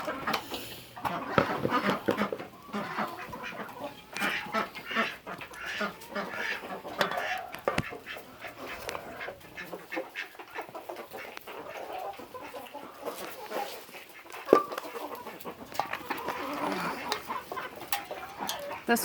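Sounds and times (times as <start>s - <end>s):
chickens clucking softly: 0.0s - 19.0s.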